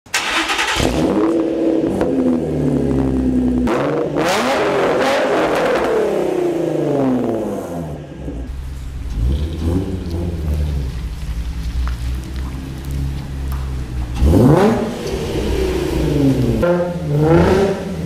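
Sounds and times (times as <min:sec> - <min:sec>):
car engine revving hard: 0:00.1 - 0:08.0, 0:09.0 - 0:11.2, 0:13.5 - 0:18.0.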